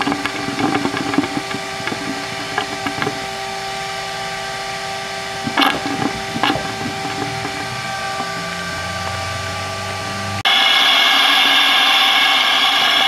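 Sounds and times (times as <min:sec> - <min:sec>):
shop vacuum running: 0:00.0 - 0:13.0.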